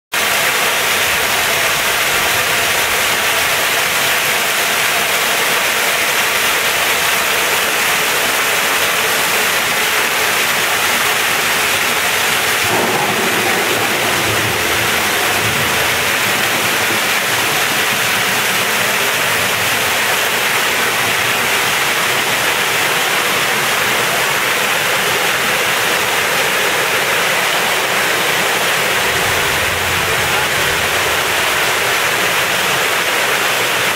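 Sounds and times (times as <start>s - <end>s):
waterfall splashing into pond: 0.1s - 33.9s.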